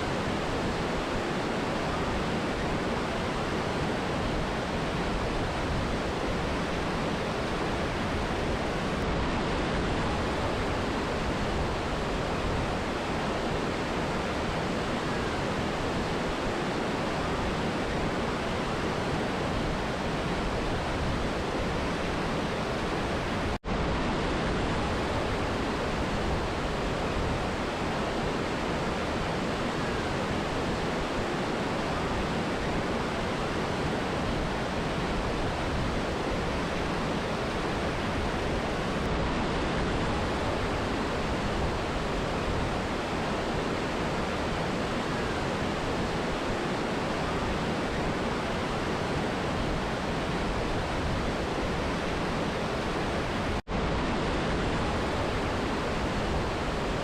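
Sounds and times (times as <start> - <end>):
river and waterfall rushing: 0.0 - 57.0.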